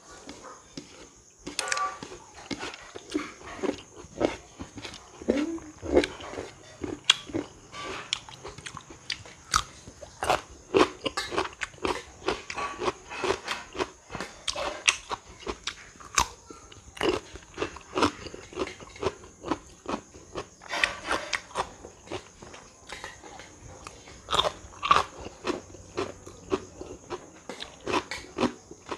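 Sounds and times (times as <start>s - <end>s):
crunching and chewing fruit: 0.0s - 28.9s.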